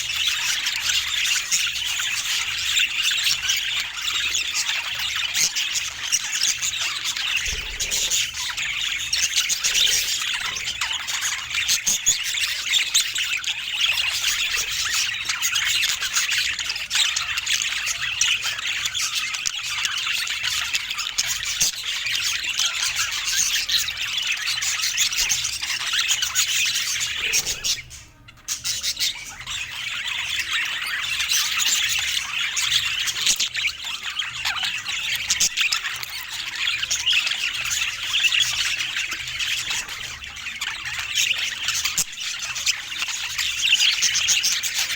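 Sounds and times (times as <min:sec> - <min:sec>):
budgerigars chattering: 0:00.0 - 0:44.9.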